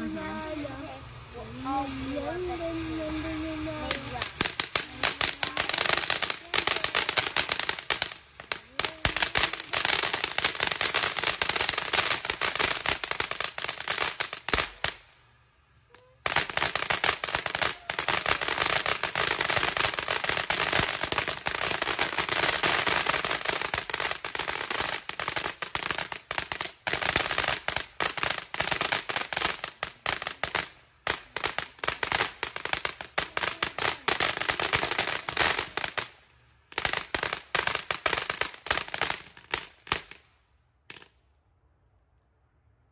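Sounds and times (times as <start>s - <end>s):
fireworks crackling: 0.0s - 41.4s.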